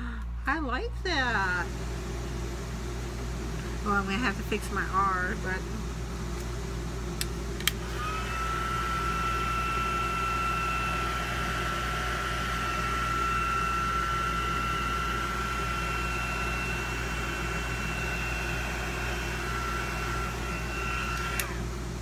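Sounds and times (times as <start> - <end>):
electric dryer whining and blowing: 0.8 - 22.0.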